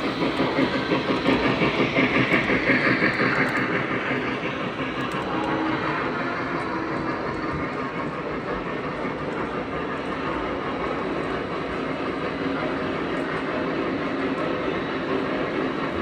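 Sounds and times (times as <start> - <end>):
model train rolling on track: 0.0 - 16.0.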